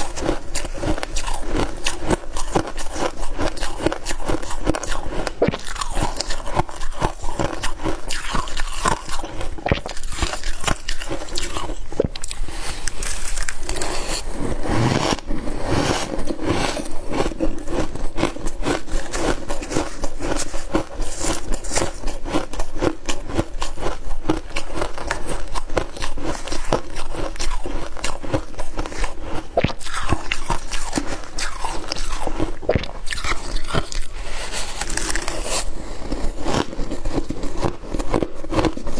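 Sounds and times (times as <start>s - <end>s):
chewing crunchy frost: 0.0s - 38.9s.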